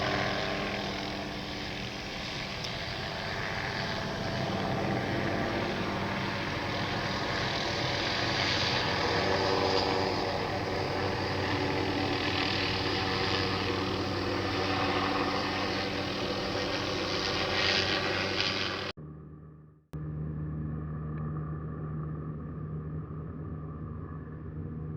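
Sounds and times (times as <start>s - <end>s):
helicopter engine and rotor: 0.0s - 24.9s.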